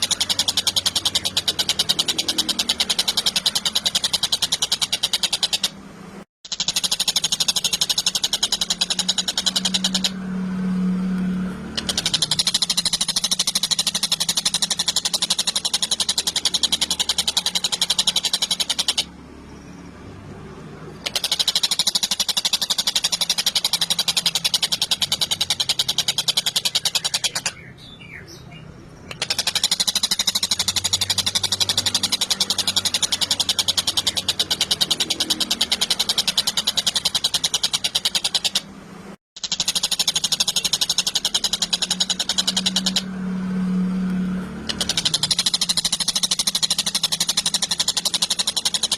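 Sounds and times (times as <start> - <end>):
kingfisher rattling trill: 0.0 - 5.8, 6.4 - 10.9, 11.6 - 20.1, 20.8 - 27.8, 29.0 - 38.7, 39.4 - 43.4, 44.4 - 48.9.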